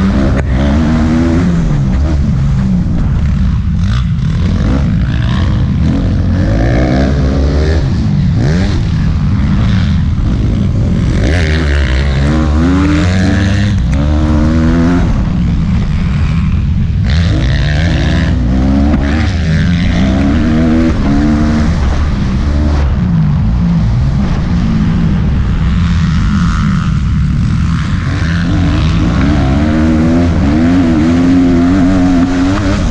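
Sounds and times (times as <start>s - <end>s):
motocross bike engine revving: 0.0s - 32.9s.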